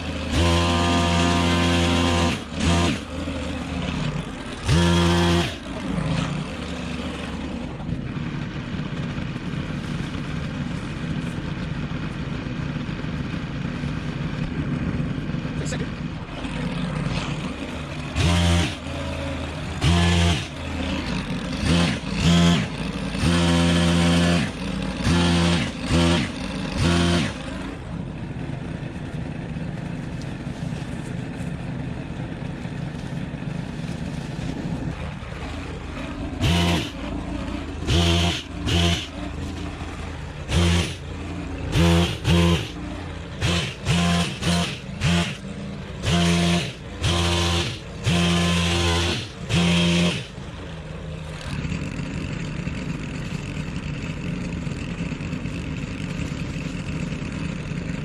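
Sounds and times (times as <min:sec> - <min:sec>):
pole pruner engine revving: 0:00.0 - 0:11.3, 0:13.5 - 0:30.4, 0:32.1 - 0:58.0.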